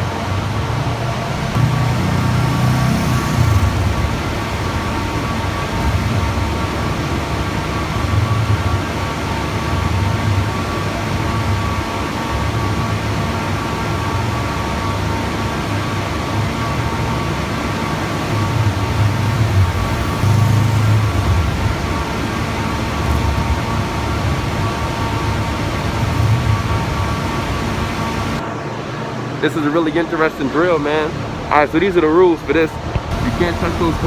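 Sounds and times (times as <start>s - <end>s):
motorcycle engines running: 0.0s - 28.4s, 33.0s - 34.0s.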